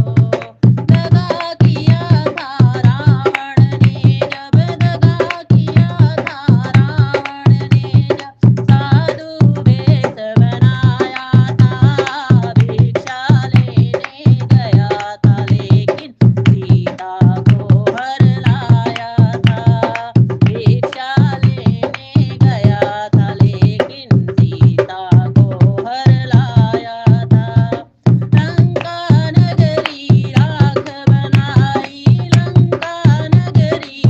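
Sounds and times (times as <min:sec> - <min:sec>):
person singing devotional song: 0:00.0 - 0:34.0
tabla and drum: 0:00.0 - 0:34.0.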